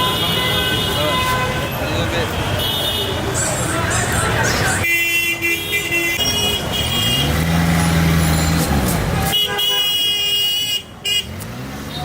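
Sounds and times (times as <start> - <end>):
vehicle horns honking: 0.0 - 3.4, 4.7 - 12.0
street traffic: 0.0 - 12.0.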